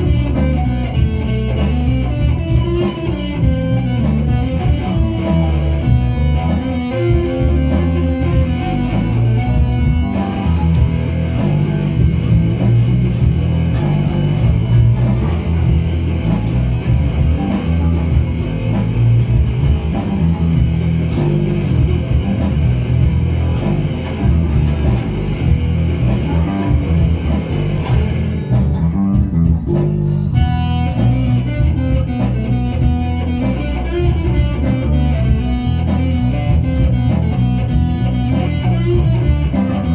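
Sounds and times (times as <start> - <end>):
bass guitar: 0.0 - 39.9
electric guitar rock riff: 0.0 - 39.9.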